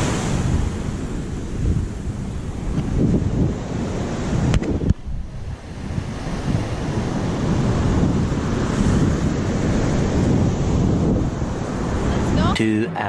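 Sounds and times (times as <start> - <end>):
wind buffeting the microphone: 0.0 - 12.8
surf washing on a beach: 0.0 - 13.0.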